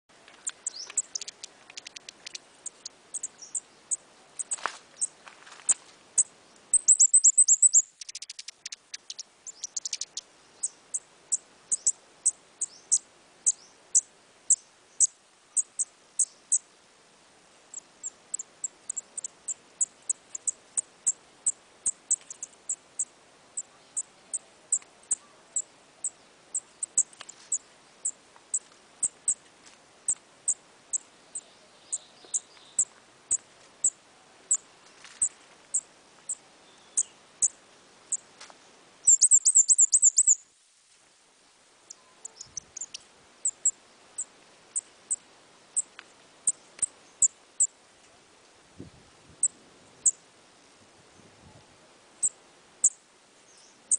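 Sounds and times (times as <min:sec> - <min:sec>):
small bird chirping: 0:00.3 - 0:16.7, 0:17.7 - 0:29.4, 0:30.0 - 0:38.3, 0:39.0 - 0:40.5, 0:41.8 - 0:47.7, 0:49.4 - 0:50.2, 0:52.2 - 0:53.9.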